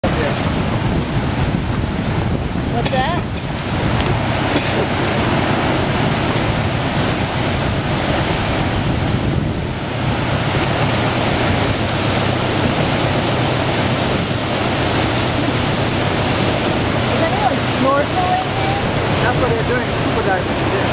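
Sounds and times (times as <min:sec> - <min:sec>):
waves rushing past boat: 0:00.0 - 0:20.9
wind on microphone: 0:00.0 - 0:20.9.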